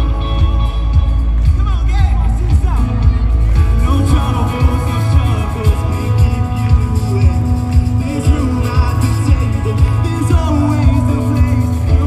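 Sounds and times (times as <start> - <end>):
live band playing pop song: 0.0 - 12.0
male singer: 0.0 - 12.0.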